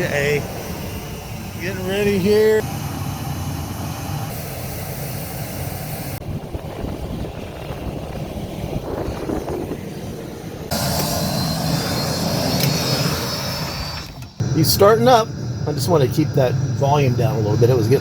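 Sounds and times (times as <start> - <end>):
aircraft engine running: 0.0 - 18.0
high whine: 0.0 - 18.0.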